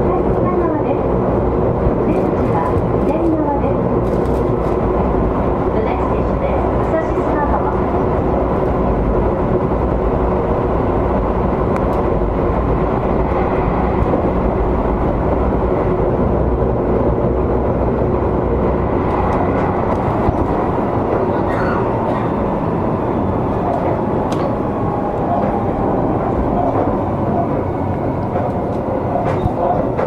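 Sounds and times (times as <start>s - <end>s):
train wheels rolling on rails: 0.0s - 30.0s
electric train running: 1.0s - 30.0s.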